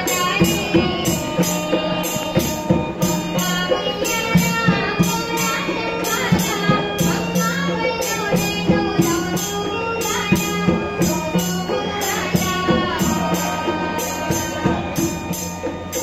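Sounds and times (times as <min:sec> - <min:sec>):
steady percussion beat: 0:00.0 - 0:16.0.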